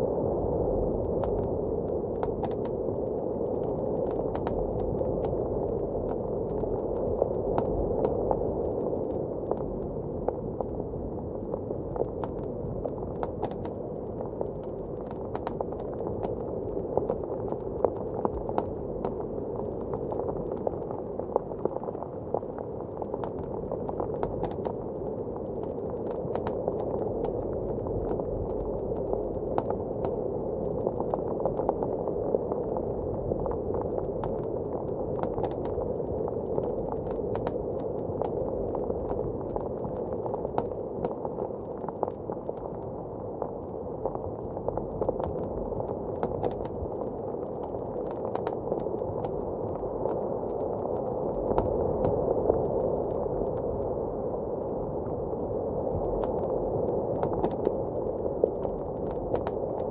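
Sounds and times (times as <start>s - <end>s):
muffled blizzard wind: 0.0s - 59.9s
wood fire crackling and popping: 1.1s - 9.8s, 12.0s - 32.0s, 32.7s - 42.8s, 44.0s - 53.8s, 57.2s - 59.9s.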